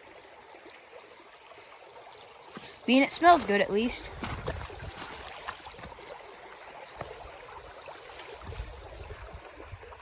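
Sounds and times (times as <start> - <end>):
creek water running: 0.0 - 10.0.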